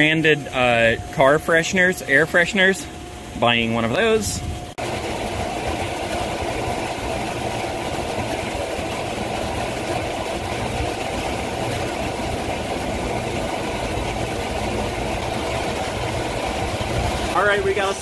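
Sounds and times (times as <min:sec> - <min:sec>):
low mechanical hum: 0:00.0 - 0:18.0
mid-pitched motor whine: 0:00.0 - 0:18.0.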